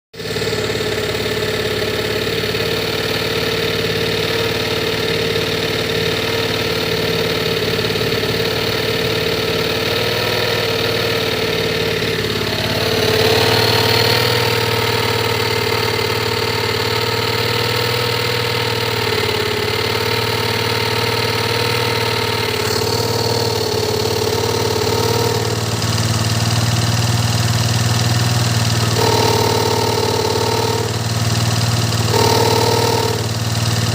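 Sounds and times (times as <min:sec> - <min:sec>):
engine running with snoring noise: 0:00.2 - 0:33.9.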